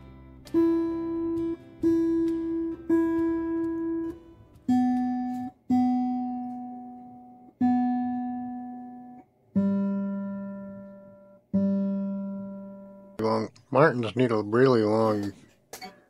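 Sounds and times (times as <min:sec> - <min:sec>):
acoustic guitar strings plucked: 0:00.0 - 0:13.6.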